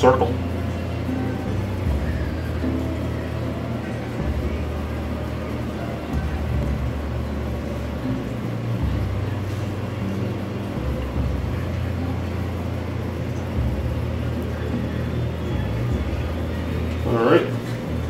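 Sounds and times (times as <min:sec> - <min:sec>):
background music with bass line: 0:00.0 - 0:18.0.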